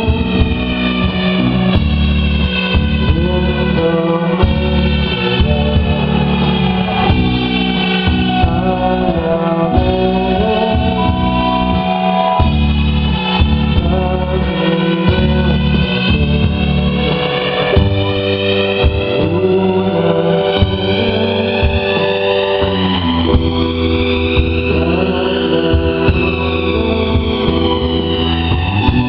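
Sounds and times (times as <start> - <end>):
bass line: 0.0 - 29.0
electric guitar: 0.0 - 29.0
synthesizer chords: 0.0 - 29.0.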